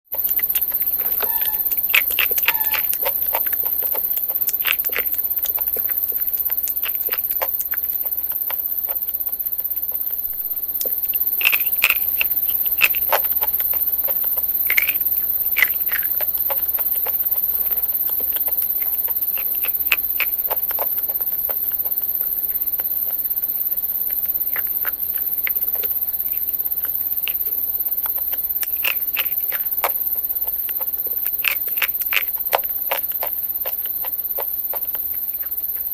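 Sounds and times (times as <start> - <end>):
crunching fried chicken: 0.0 - 35.9.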